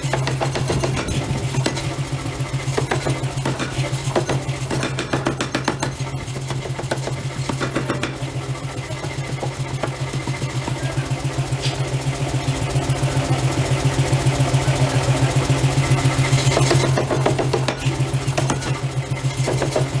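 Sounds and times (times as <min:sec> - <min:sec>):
forging machinery pulsing hum: 0:00.0 - 0:20.0.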